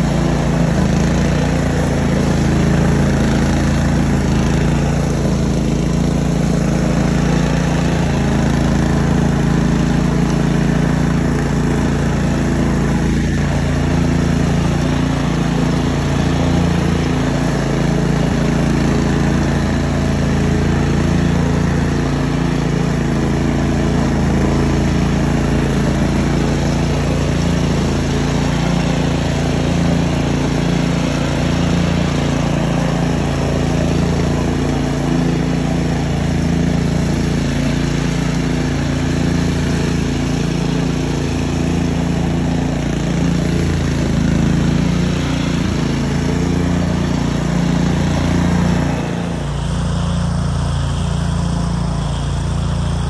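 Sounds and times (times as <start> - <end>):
mower engine running steadily: 0.0 - 53.0.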